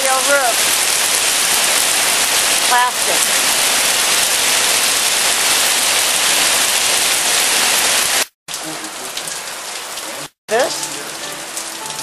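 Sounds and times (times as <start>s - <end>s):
rain and hail on plastic roof: 0.0s - 12.0s
rain falling on flooded ground: 0.0s - 12.0s.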